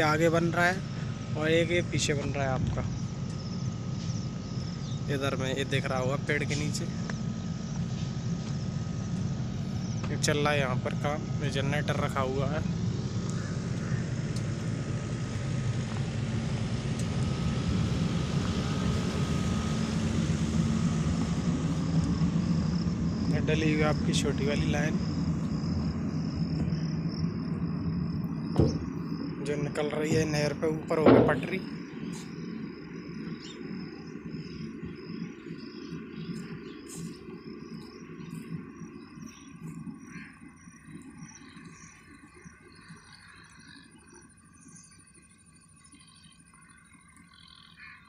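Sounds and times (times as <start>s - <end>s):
low rumble: 0.0s - 47.7s
generator engine hum: 0.0s - 48.0s
insects chirring: 0.0s - 48.0s.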